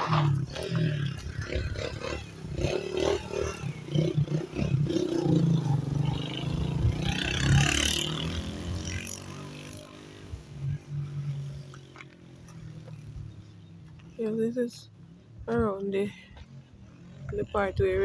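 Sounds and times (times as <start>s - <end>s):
vehicle passing: 0.0s - 15.4s, 16.0s - 18.0s.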